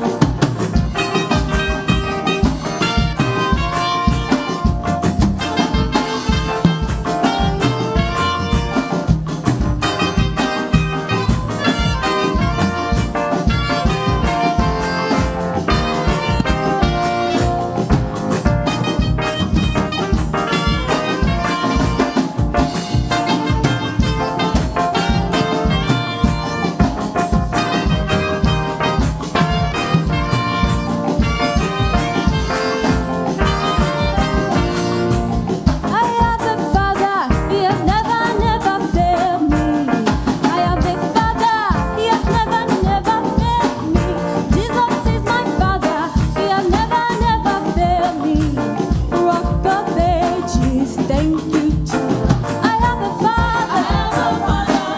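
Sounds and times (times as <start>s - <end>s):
drum beat: 0.0s - 54.9s
live gospel band music: 0.0s - 54.9s.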